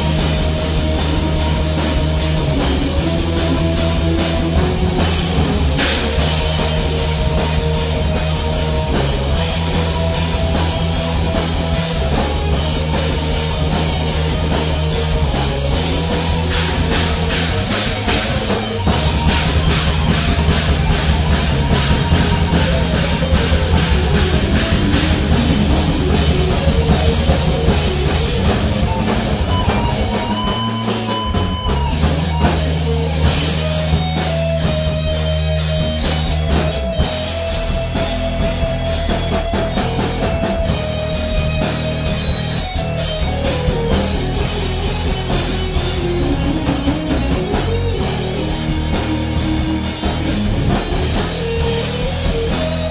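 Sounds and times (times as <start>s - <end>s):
drum kit playing: 0.0s - 52.9s
electric guitar riff: 0.0s - 52.9s.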